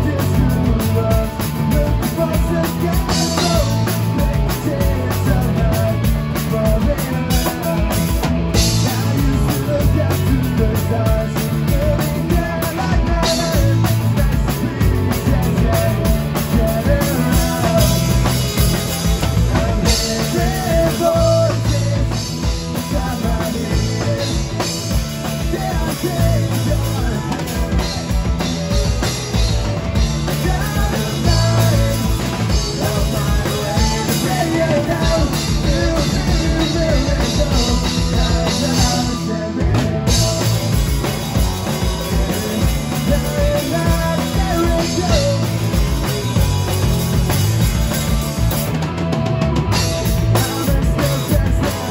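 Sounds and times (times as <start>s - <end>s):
drum kit: 0.0s - 51.9s
electric guitars: 0.0s - 51.9s.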